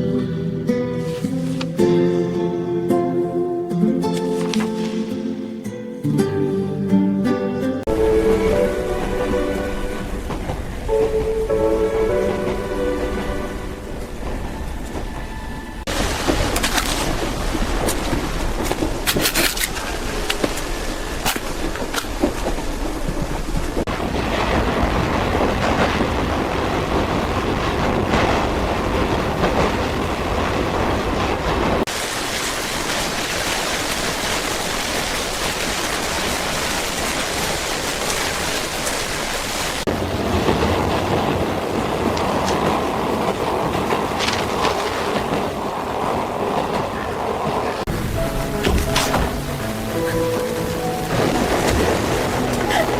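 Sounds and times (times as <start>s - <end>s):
rushing water: 3.7s - 5.5s, 7.8s - 52.9s
wind: 7.8s - 52.9s.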